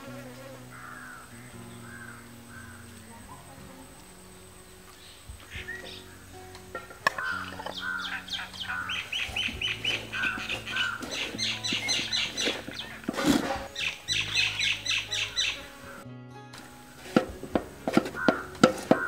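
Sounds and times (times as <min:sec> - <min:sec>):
birds chirping: 0:00.0 - 0:16.1, 0:17.4 - 0:19.0
background music: 0:00.0 - 0:19.0.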